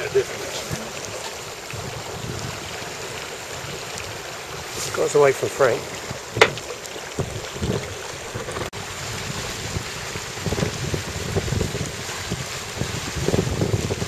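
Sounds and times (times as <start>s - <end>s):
water slapping along hull: 0.0s - 14.0s
wind buffeting microphone: 0.0s - 14.0s.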